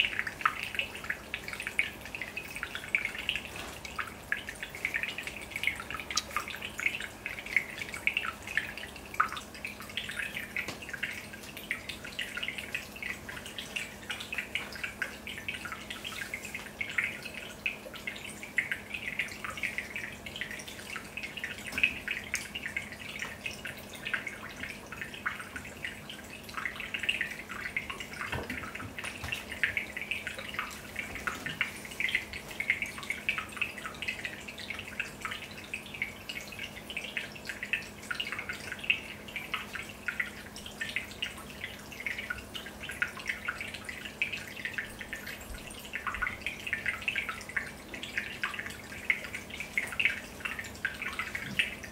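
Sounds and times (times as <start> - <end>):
aquarium water bubbling: 0.0 - 51.9
faint steady hum: 0.0 - 51.9.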